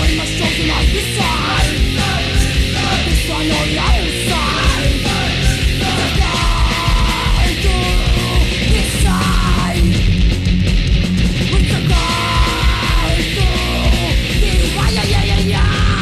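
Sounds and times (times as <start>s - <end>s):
shouted vocals: 0.0s - 9.9s, 11.6s - 16.0s
punk rock band playing: 0.0s - 16.0s.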